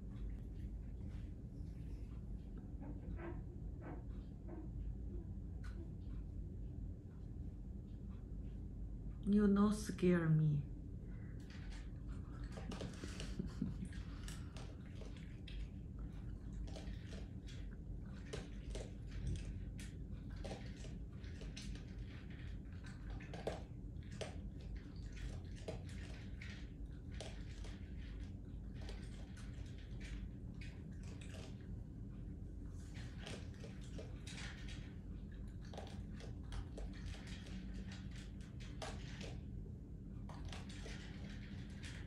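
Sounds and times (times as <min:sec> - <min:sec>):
raccoon chewing food: 0:00.0 - 0:08.8, 0:11.0 - 0:42.0
low steady hum: 0:00.0 - 0:42.0.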